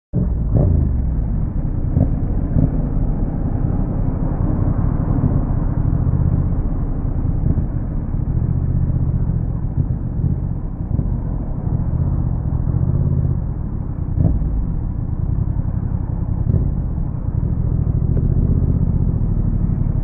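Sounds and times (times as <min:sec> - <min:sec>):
motorcycle engine running: 0:00.2 - 0:20.0.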